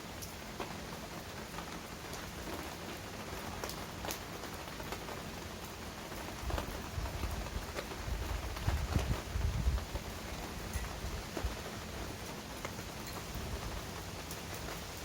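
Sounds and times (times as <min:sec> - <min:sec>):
heavy rain: 0:00.0 - 0:15.0
raindrops tapping close by: 0:00.0 - 0:15.0.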